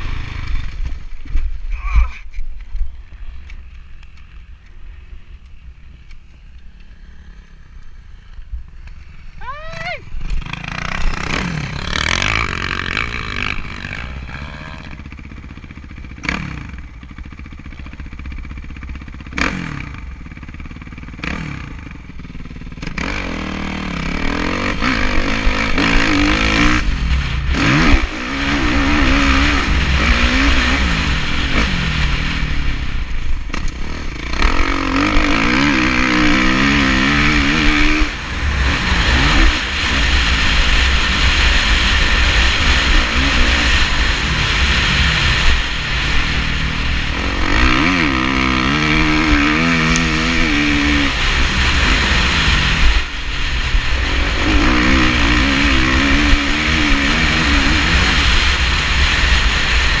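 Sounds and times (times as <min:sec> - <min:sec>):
motocross engine revving: 0:00.0 - 0:01.0, 0:03.2 - 1:00.0.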